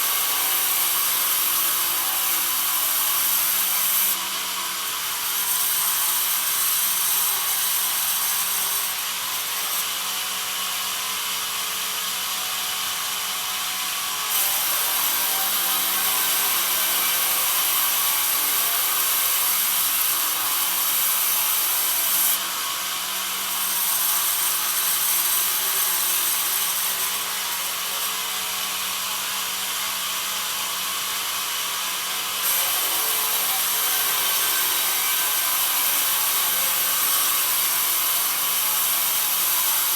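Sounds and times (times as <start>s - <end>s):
bandsaw mill sawing wood: 0.0s - 39.9s.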